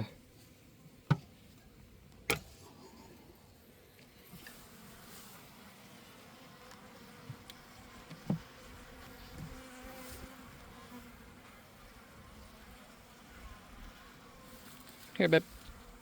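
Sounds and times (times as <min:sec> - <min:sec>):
honeybees buzzing: 0:02.5 - 0:16.0.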